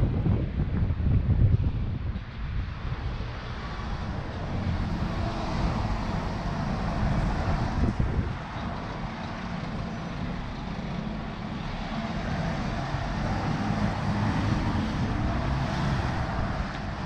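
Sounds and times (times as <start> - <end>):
bus and cars driving past: 0.0 - 17.0
wind buffeting microphone: 0.0 - 17.0.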